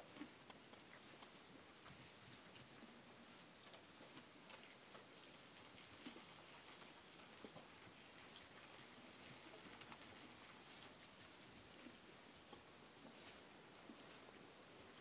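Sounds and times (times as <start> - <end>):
straw and hay rustling: 0.0 - 15.0.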